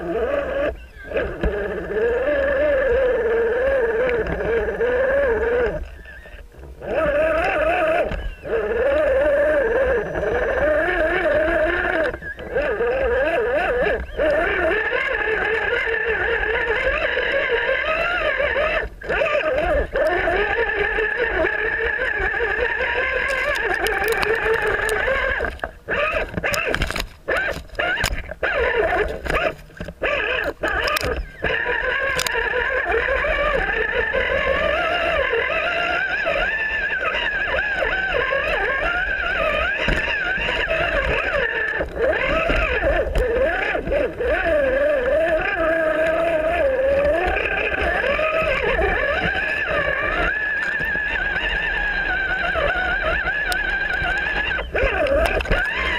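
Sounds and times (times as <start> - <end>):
electric motor and gear whine: 0.0 - 55.9.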